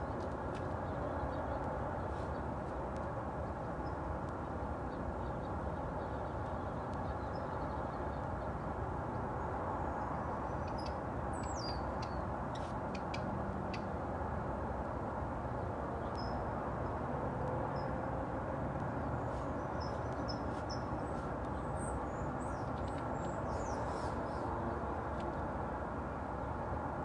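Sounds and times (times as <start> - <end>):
outdoor background hum: 0.0 - 27.0.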